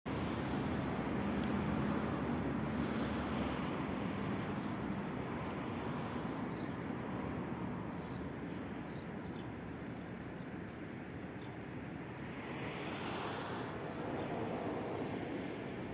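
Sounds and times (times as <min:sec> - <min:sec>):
road traffic rumble: 0:00.1 - 0:15.9.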